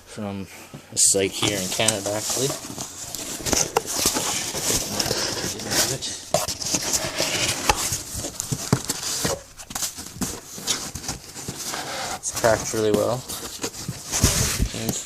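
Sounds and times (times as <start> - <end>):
packing material rustling: 1.2 - 15.0.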